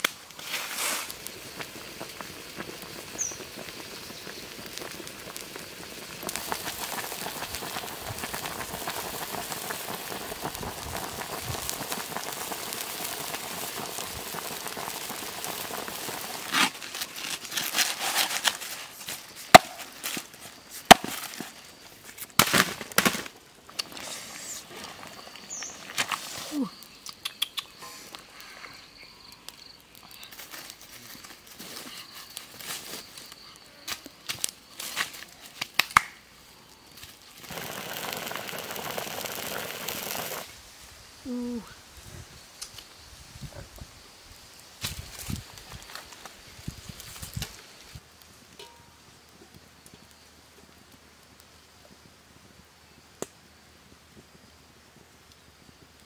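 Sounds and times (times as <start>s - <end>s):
wood fire crackling and popping: 0.0s - 40.8s, 42.5s - 43.4s, 44.3s - 56.0s
water boiling hiss: 0.0s - 56.0s.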